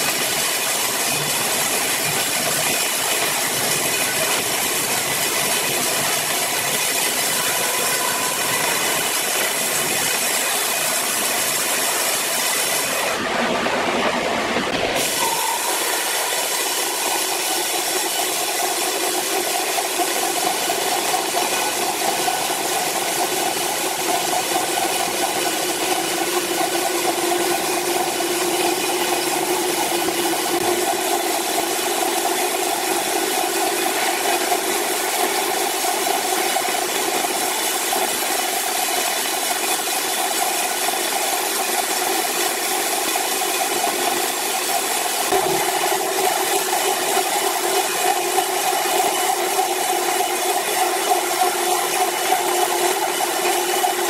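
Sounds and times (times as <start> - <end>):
sawmill mechanical drone: 0.0 - 54.0.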